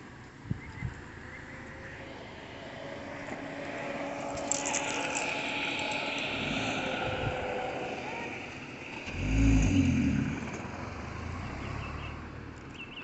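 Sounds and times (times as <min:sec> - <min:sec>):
car engine running: 0:01.0 - 0:13.0.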